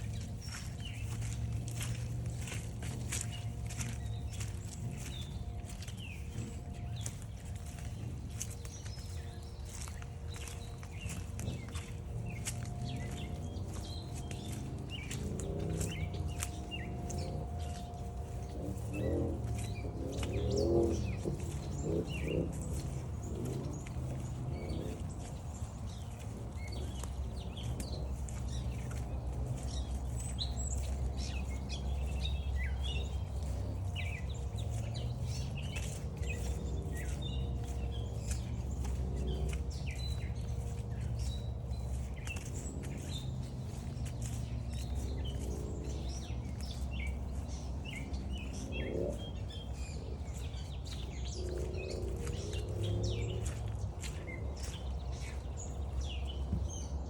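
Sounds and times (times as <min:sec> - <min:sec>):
low rumble: 0:00.0 - 0:57.0
songbirds chirping: 0:00.0 - 0:57.0.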